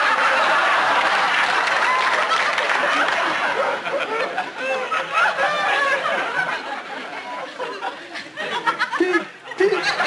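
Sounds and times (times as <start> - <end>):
studio audience laughing: 0.0 - 10.0.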